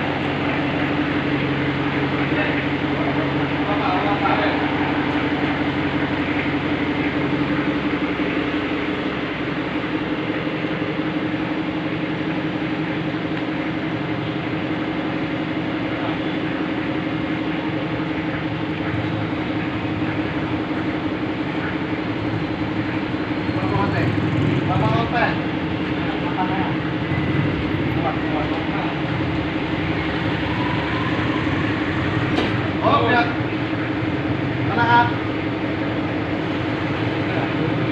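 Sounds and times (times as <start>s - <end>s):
machine drone with low hum: 0.0s - 37.9s.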